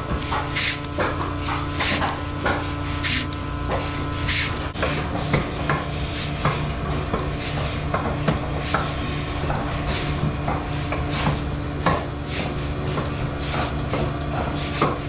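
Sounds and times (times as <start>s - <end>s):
irregular knocks and clanks: 0.0s - 15.0s
low machine hum: 0.0s - 15.0s.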